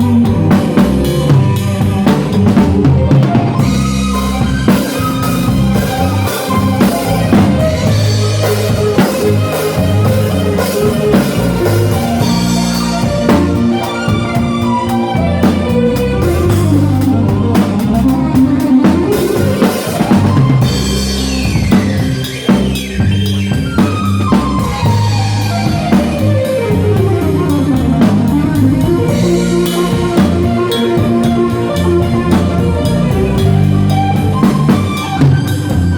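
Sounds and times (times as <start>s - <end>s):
live band playing: 0.0s - 35.9s.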